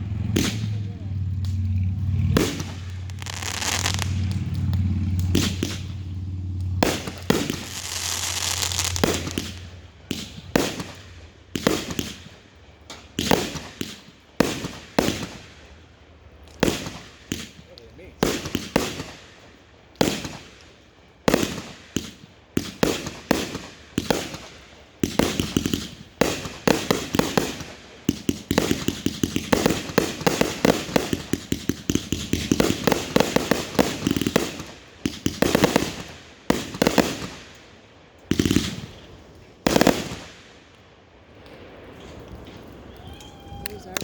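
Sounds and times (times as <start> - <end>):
firework cake bangs and crackling: 0.1 - 15.8, 16.4 - 40.8.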